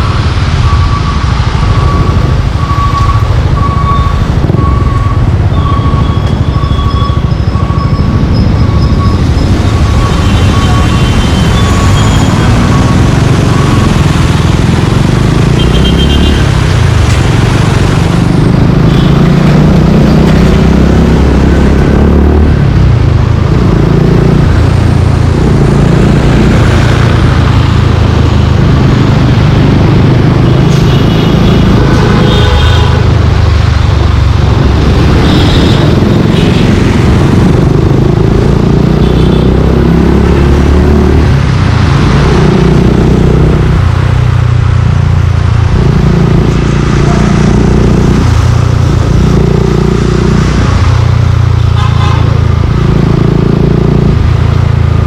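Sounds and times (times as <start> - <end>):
street traffic: 0.0 - 55.0
motorcycle engine revving: 1.6 - 55.0.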